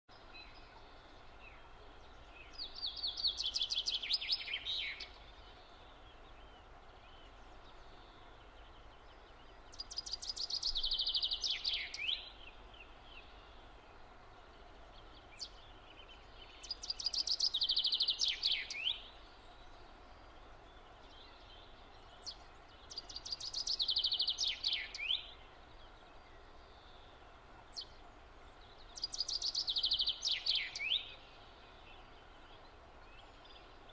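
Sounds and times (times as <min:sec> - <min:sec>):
faint steady background noise: 0:00.1 - 0:33.9
songbird singing: 0:00.1 - 0:33.9.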